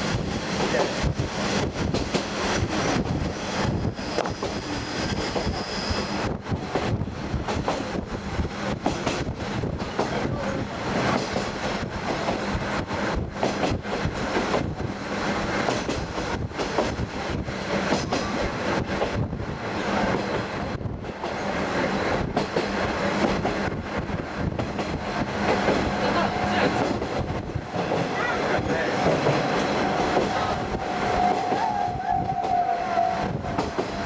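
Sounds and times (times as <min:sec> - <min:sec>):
wheels on rail noise: 0:00.0 - 0:34.0.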